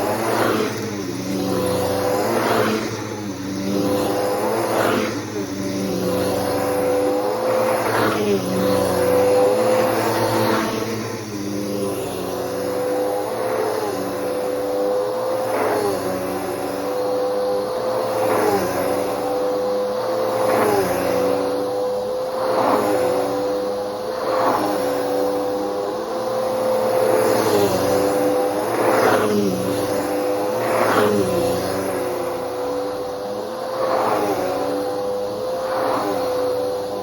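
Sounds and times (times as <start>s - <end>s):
vacuum cleaner motor whine: 0.0s - 37.0s.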